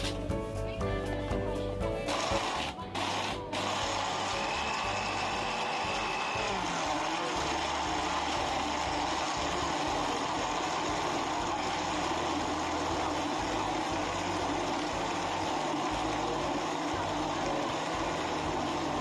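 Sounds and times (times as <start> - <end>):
electric blender whirring: 2.1 - 19.0.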